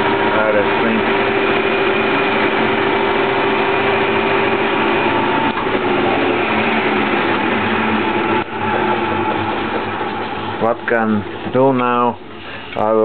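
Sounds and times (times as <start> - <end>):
lathe motor humming and whining: 0.0 - 13.0.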